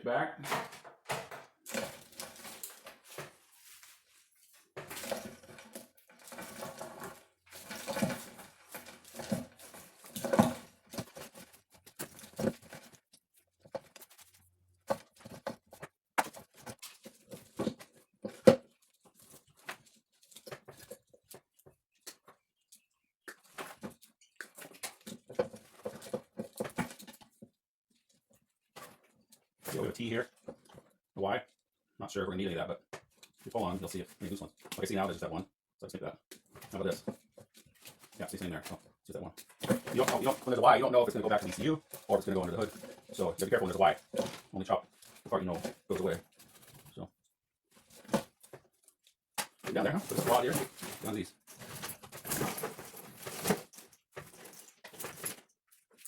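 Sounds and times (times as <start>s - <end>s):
wires rustling and clicking: 0.4s - 30.9s, 32.9s - 35.2s, 36.3s - 56.0s.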